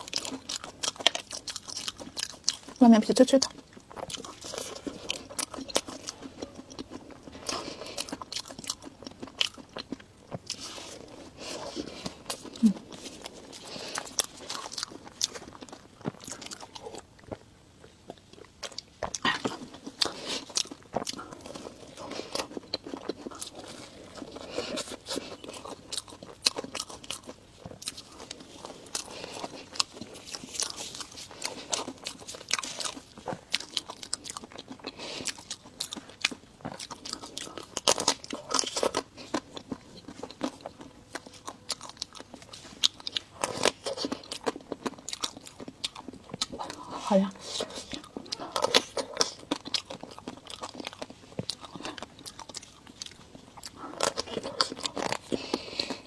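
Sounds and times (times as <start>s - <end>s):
biting and chewing crisp pastry: 0.0s - 56.0s.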